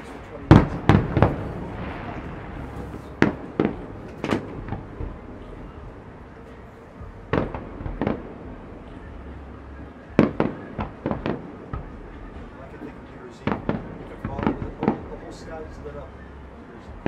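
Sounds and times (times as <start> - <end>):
fireworks bursting: 0.0 - 17.0
low rumble: 0.0 - 17.0.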